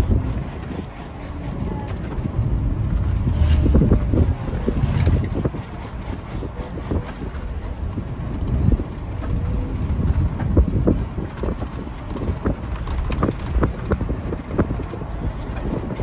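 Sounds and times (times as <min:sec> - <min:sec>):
knocks and rattles from bumps: 0:00.0 - 0:16.0
low rumble of engine and road: 0:00.0 - 0:16.0.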